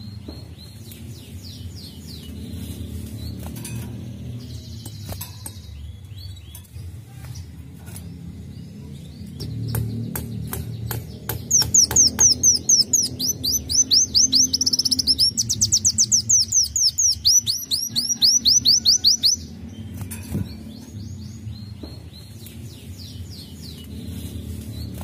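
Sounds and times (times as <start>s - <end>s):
sunbird singing: 0.0s - 25.0s.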